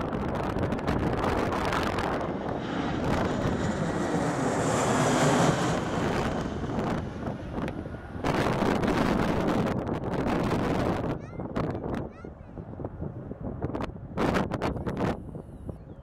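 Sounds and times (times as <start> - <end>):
jet engine with high whine: 0.0 - 16.0
wind buffeting microphone: 0.0 - 16.0.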